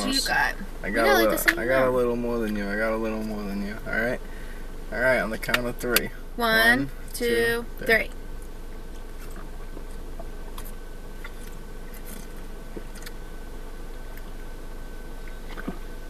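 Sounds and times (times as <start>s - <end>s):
low hum in car cabin: 0.0s - 16.0s.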